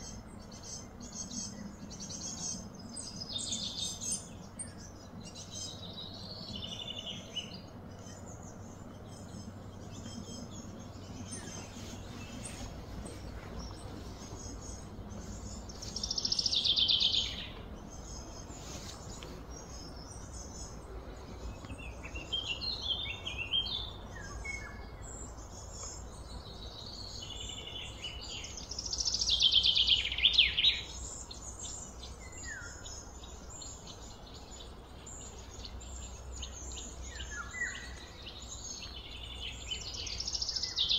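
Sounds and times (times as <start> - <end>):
ambient background noise: 0.0 - 40.9
bird calls and chirps: 0.0 - 40.9
high trilling birdsong: 0.0 - 40.9.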